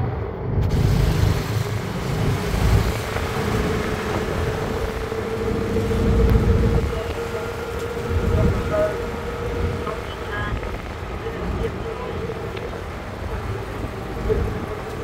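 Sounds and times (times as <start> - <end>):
steady hum: 0.0 - 14.8
engine rumble and road noise: 0.0 - 15.0
traffic noise: 0.0 - 15.0
wind: 0.0 - 15.0.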